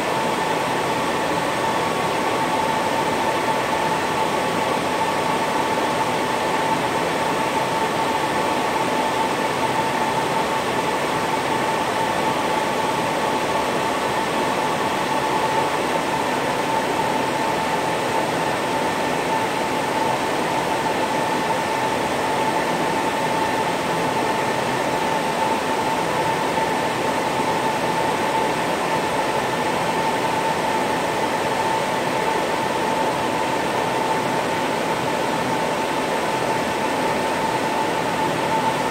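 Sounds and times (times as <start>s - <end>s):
server cooling fans humming: 0.0s - 38.9s.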